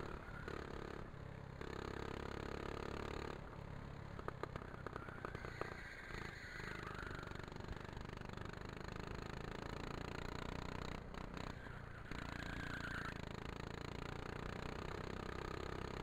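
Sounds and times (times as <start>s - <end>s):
go-kart engine running: 0.0s - 16.0s.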